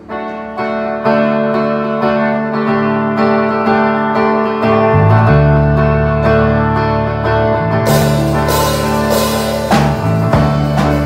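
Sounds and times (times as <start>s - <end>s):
bass guitar: 0.0s - 11.0s
electric guitar chords: 0.0s - 11.0s.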